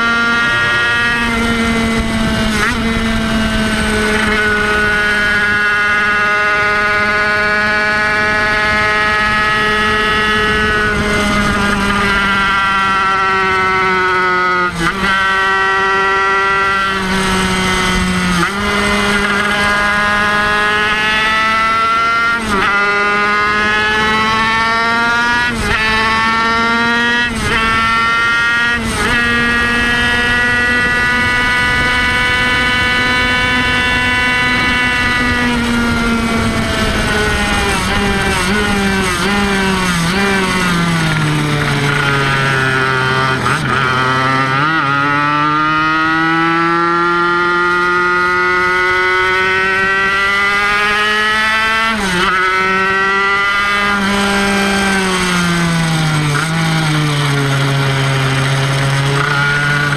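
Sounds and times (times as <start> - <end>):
racing motorcycle engine revving: 0.0 - 59.9.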